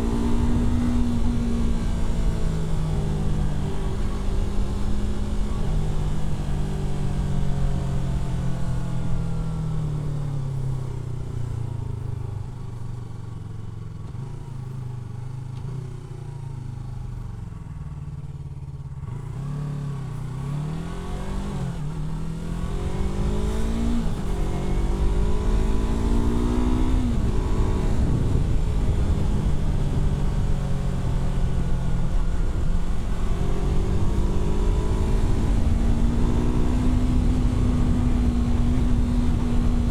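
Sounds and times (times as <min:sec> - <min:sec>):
motorcycle engine revving: 0:00.0 - 0:08.8, 0:14.0 - 0:39.9.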